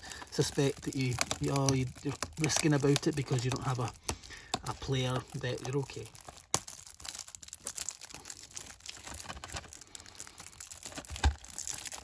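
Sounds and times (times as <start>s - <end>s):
plastic shrink-wrap crinkling: 0.0s - 12.0s.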